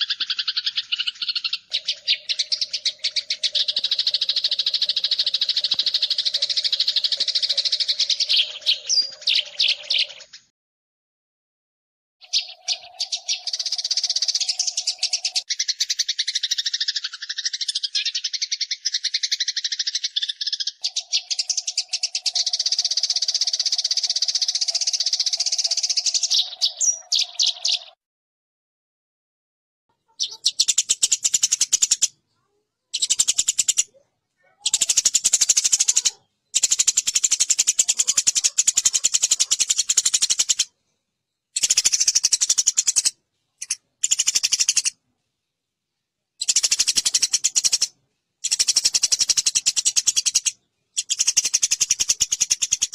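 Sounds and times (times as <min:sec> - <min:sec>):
sparrows chattering harshly: 0:00.0 - 0:10.5, 0:12.2 - 0:28.0, 0:29.9 - 0:45.0, 0:46.4 - 0:52.9.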